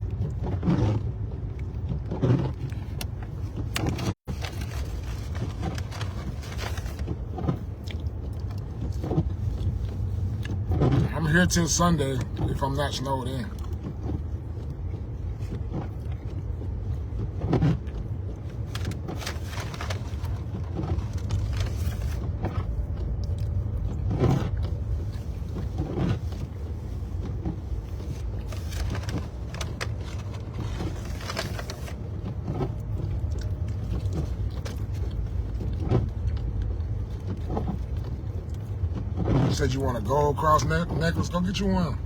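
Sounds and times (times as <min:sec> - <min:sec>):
car road rumble inside cabin: 0:00.0 - 0:42.0.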